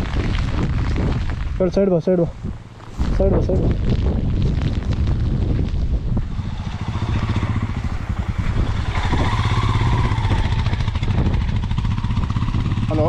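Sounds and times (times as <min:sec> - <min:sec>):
motorcycle engine running: 0:02.5 - 0:13.0.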